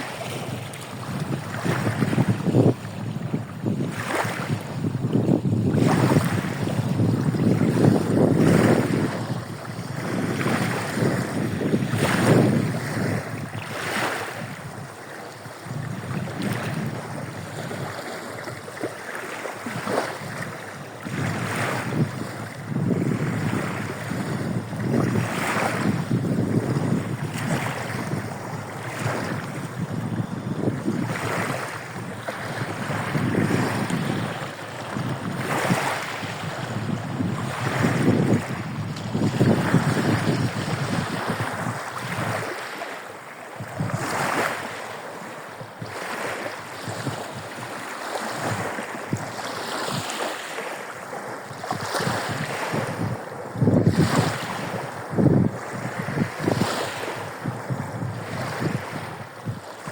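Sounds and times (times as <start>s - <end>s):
wind rumbling on microphone: 0.0s - 42.7s, 43.6s - 50.4s, 51.1s - 59.9s
waves splashing on shore: 0.0s - 59.9s.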